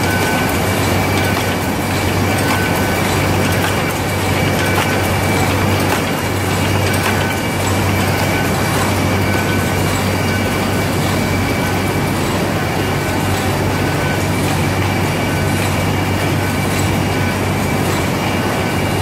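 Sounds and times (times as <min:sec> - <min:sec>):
low machine hum: 0:00.0 - 0:19.0
machine clattering: 0:00.0 - 0:19.0.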